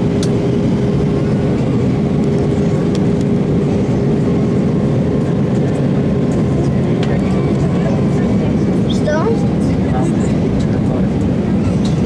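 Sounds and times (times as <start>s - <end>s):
constant hum: 0.0s - 12.0s
jet engine noise: 0.0s - 12.0s.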